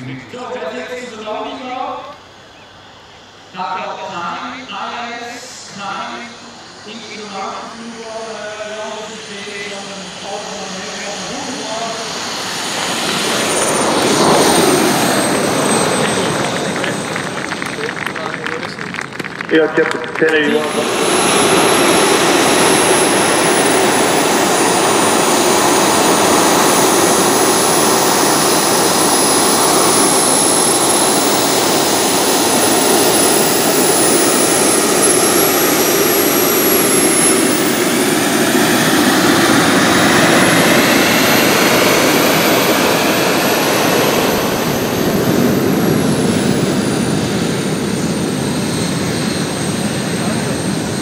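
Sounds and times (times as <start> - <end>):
miniature jet turbines whining: 0.0 - 51.0.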